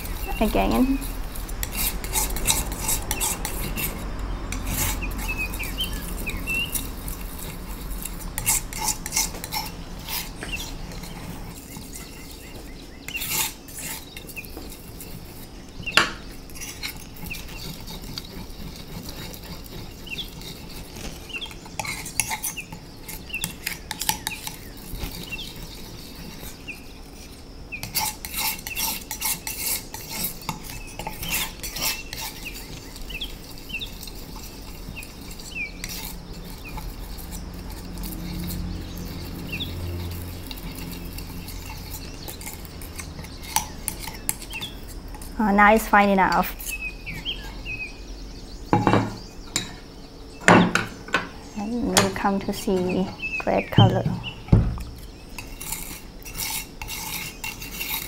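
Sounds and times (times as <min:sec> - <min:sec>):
palette knife scraping on tile: 0:00.0 - 0:47.8, 0:51.9 - 0:58.0.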